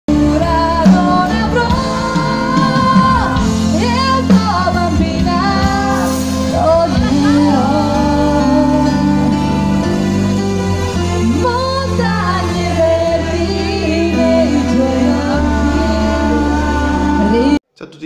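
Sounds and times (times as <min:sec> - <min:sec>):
woman singing: 0:00.1 - 0:09.9, 0:11.2 - 0:17.6
live band playing: 0:00.1 - 0:17.6.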